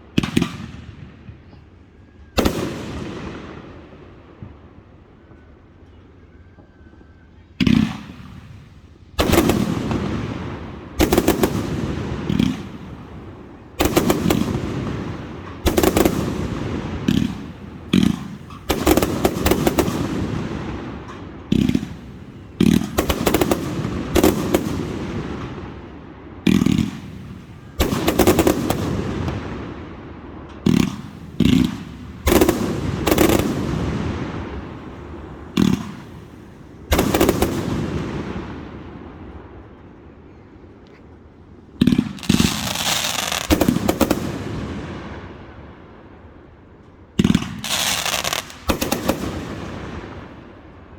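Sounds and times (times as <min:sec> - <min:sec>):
fireworks booming: 0:00.0 - 0:05.1, 0:06.6 - 0:46.2, 0:47.1 - 0:50.9.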